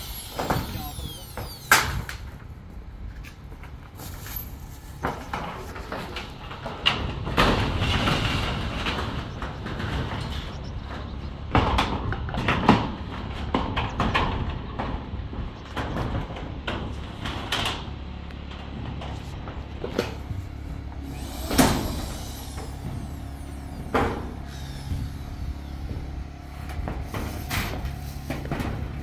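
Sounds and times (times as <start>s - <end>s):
knocks clacks and scraping: 3.1s - 29.0s.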